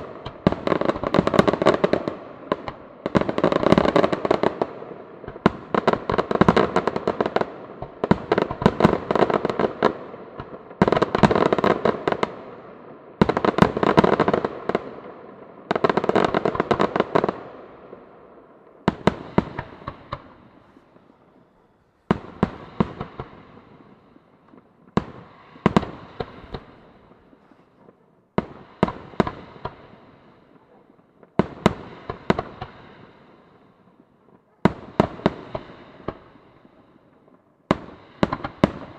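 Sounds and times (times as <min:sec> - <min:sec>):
fireworks bursting with crackles: 0:00.0 - 0:38.9.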